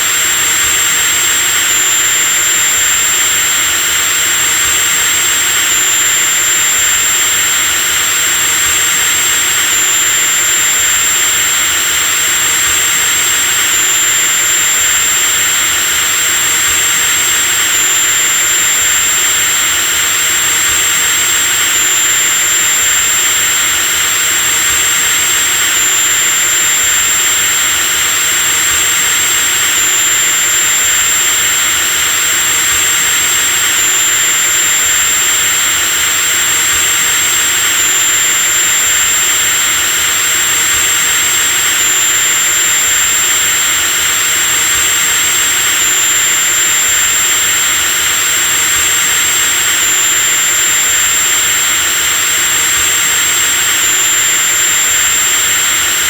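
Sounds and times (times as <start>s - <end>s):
electric drill whining: 0.0s - 56.0s.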